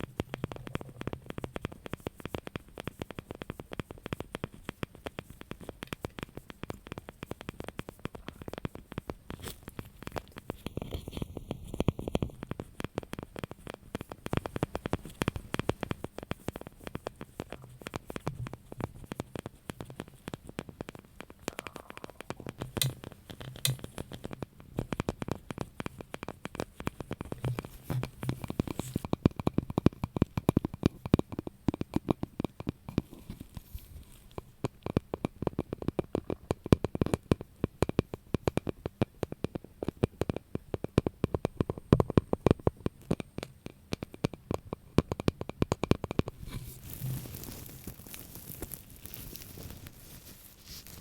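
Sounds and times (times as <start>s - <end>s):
fingers tapping and scratching: 0.0s - 51.0s.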